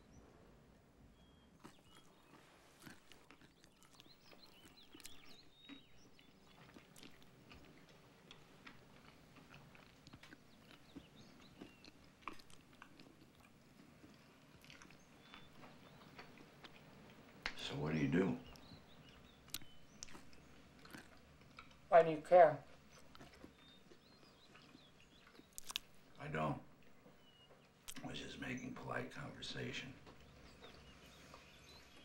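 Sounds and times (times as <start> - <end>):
chewing and biting: 1.5 - 17.6, 18.4 - 21.9, 22.6 - 26.2, 26.8 - 28.0, 30.0 - 32.0.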